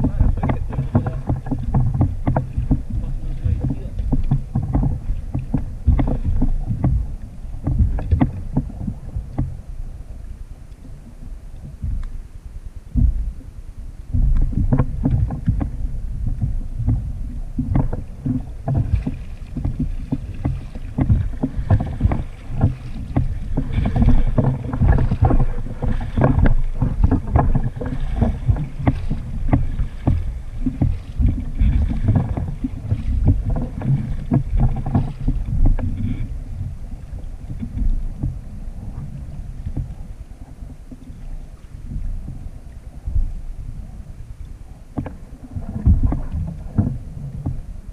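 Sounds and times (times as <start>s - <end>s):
paddle splashing and dripping: 0.0s - 47.9s
water slapping hull: 0.0s - 47.9s.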